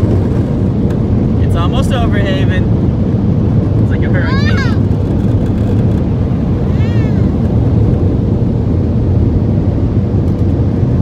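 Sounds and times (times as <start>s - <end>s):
car wash machinery rumbling: 0.0s - 11.0s.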